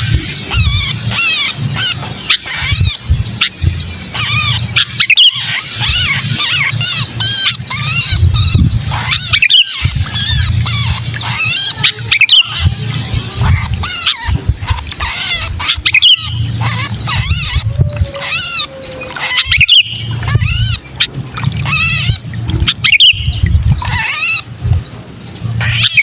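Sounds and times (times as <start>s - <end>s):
bulbul distress calls: 0.0s - 25.0s, 25.6s - 26.0s
low rumble: 0.0s - 25.7s.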